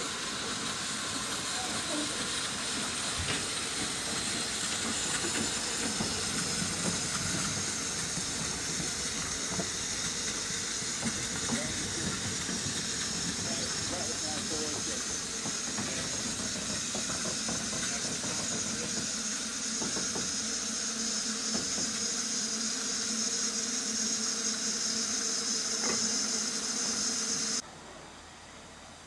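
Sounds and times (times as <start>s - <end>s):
steam hissing: 0.0s - 28.1s.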